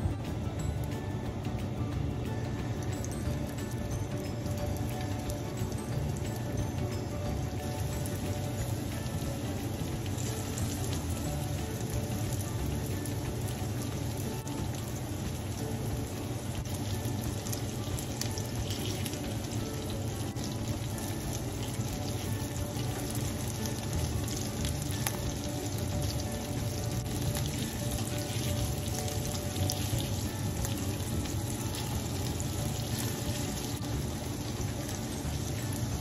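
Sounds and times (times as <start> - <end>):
soft background music: 0.0 - 36.0
meatballs sizzling in oil: 4.4 - 36.0.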